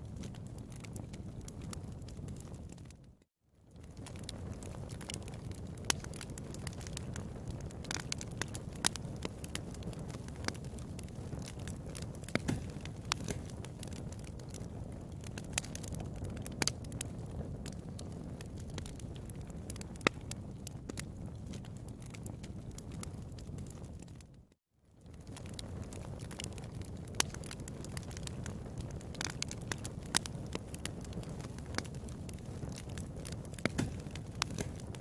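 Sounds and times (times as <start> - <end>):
low rumble of flames: 0.0 - 35.0
wood fire crackling: 0.0 - 35.0.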